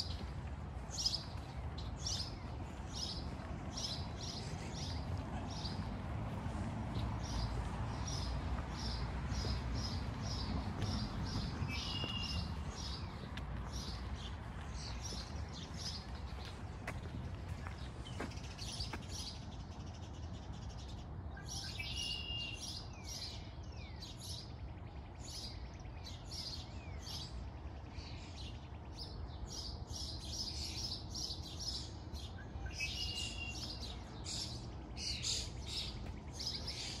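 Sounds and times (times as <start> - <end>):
songbirds singing and chirping: 0.0 - 37.0.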